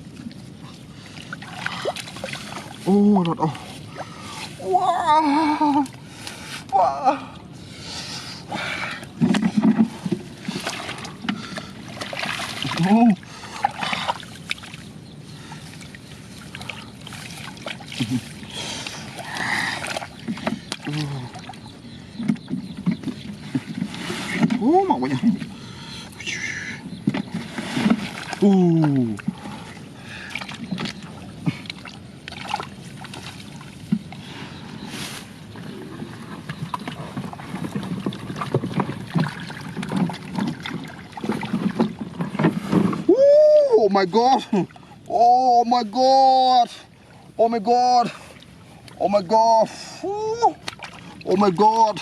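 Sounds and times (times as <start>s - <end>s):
muddy water sloshing and splashing: 0.0s - 52.0s.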